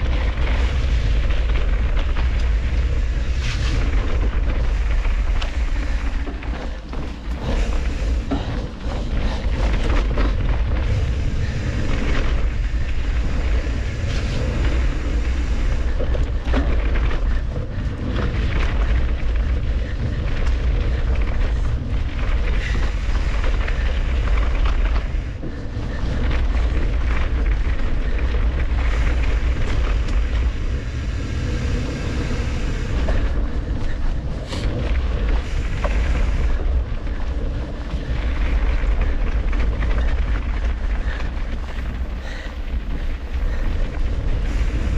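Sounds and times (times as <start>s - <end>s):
bike clicks and rattles: 0.0s - 44.9s
wind buffeting microphone: 0.0s - 44.9s.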